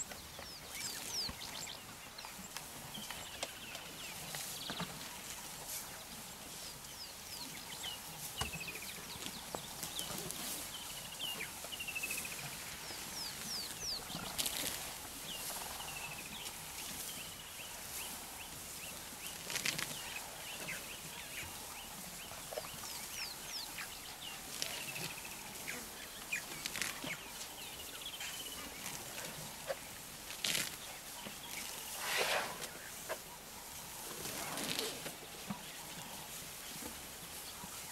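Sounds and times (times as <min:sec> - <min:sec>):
crackles in long grass: 0:00.0 - 0:37.9.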